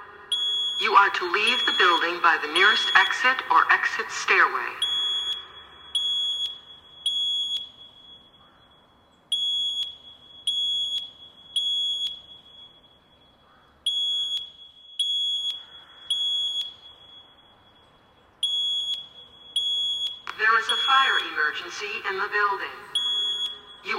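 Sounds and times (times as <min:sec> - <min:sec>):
fire alarm beeping: 0:00.0 - 0:23.9.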